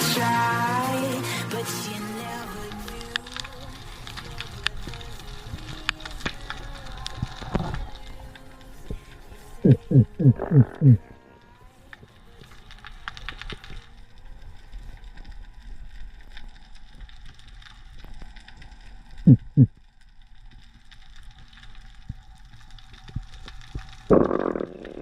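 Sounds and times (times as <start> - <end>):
underwater crackling and clicking: 2.5 - 25.0
faint steady hum: 3.0 - 25.0.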